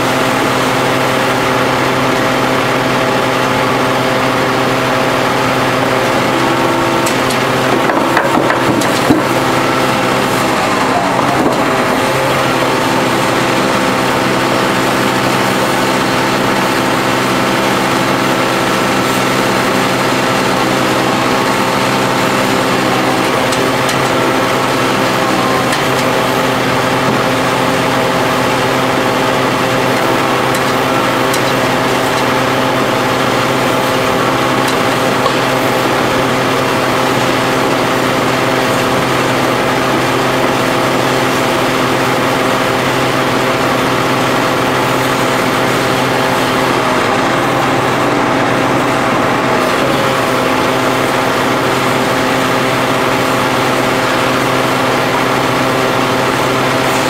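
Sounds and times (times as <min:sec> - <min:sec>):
hydraulic pump droning: 0:00.0 - 0:57.0.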